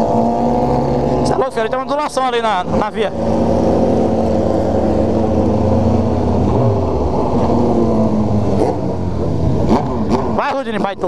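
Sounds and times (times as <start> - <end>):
motorcycle engine running: 0.0 - 11.0
other motorcycles nearby: 0.0 - 11.0.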